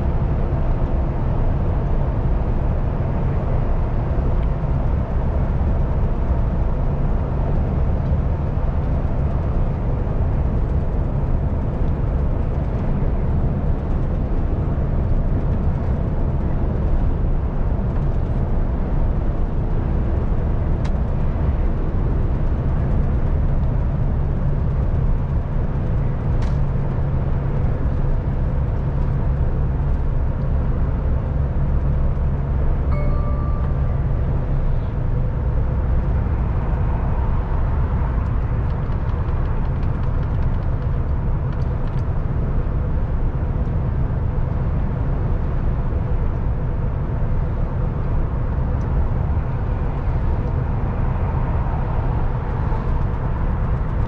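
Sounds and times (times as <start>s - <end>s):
truck diesel engine drone: 0.0s - 54.0s
tyre and road noise: 0.0s - 54.0s.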